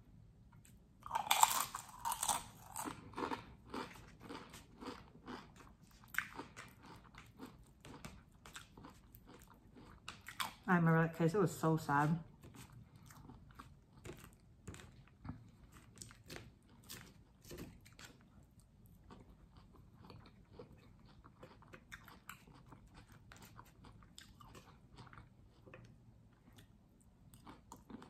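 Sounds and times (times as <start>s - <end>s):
person chewing crunchy food: 0.6s - 10.7s, 12.3s - 28.0s.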